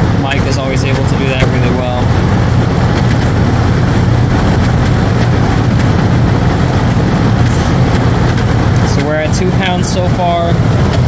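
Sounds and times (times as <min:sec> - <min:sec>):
air conditioner fan rushing: 0:00.0 - 0:11.0
low compressor hum: 0:00.0 - 0:11.0.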